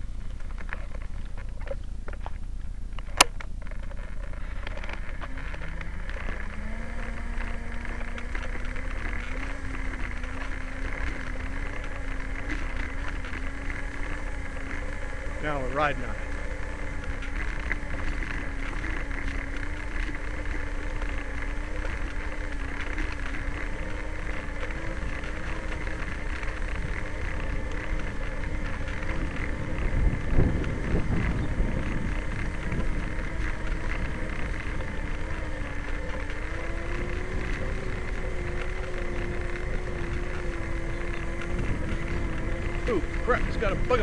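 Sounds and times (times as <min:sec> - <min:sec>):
vehicle engine running: 0:00.0 - 0:44.0
wind rush on microphone: 0:00.0 - 0:44.0.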